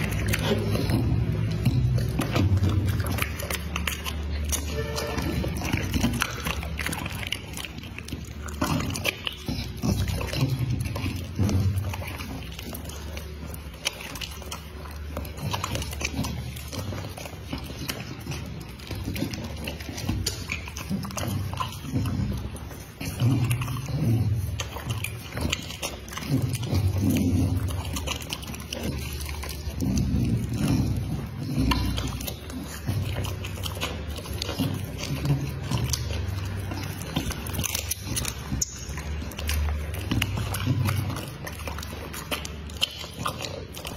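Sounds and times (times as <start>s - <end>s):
dog chewing and licking meat: 0.0s - 43.9s.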